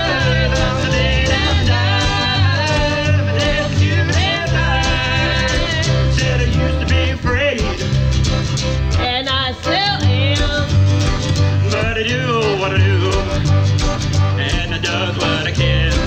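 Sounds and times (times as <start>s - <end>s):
song with guitar and bass beat: 0.0s - 16.0s.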